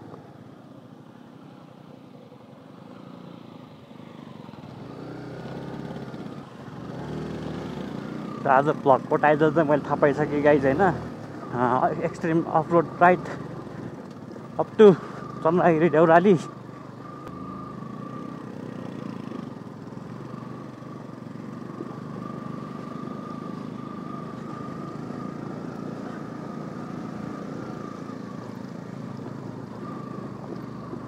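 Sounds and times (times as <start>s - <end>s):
road noise: 0.0s - 31.0s
motorcycle engine running: 4.6s - 31.0s.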